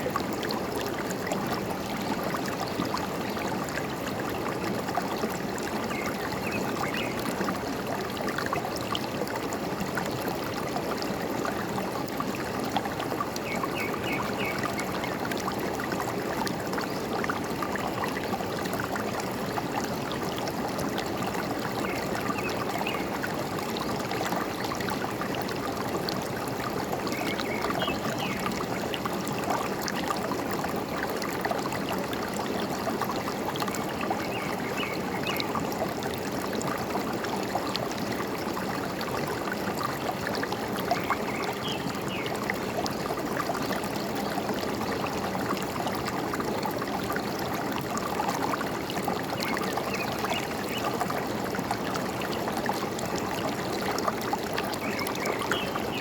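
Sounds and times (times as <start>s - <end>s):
stream gurgling: 0.0s - 56.0s.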